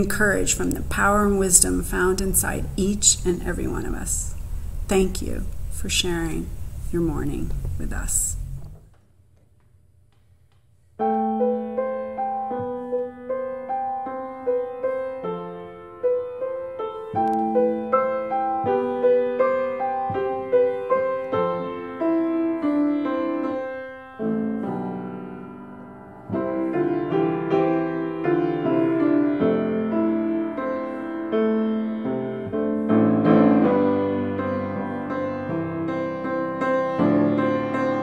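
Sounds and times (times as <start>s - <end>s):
grand piano playing: 0.0s - 5.2s, 11.0s - 38.0s.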